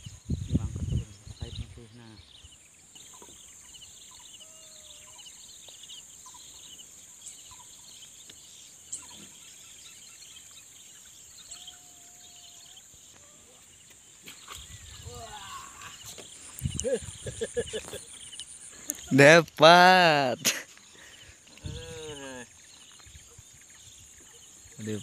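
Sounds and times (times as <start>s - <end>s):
insects droning: 0.0s - 25.0s
small birds chirping: 0.0s - 25.0s.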